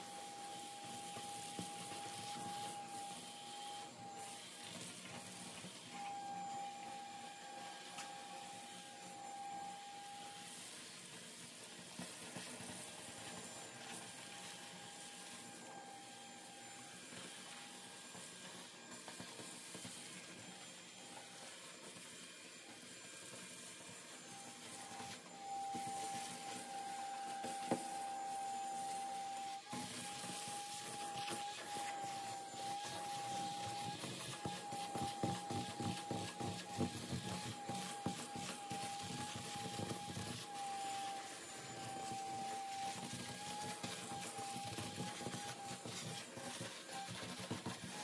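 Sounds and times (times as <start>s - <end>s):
shop vacuum sucking debris: 0.0s - 48.0s.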